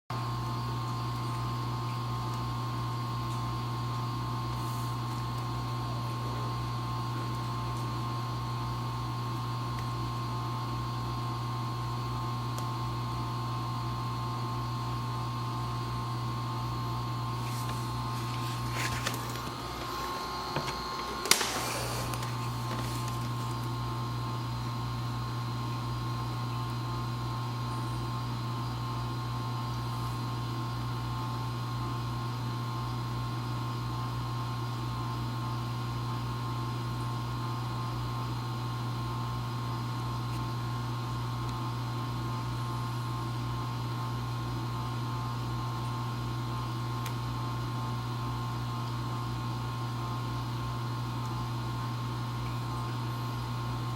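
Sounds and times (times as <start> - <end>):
aquarium pump humming with whine: 0.1 - 53.9.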